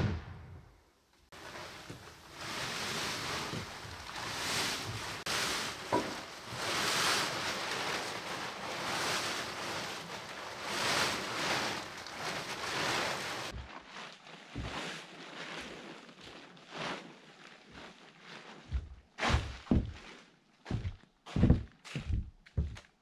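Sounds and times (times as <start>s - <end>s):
plastic tarp rustling and flapping: 1.3s - 22.7s.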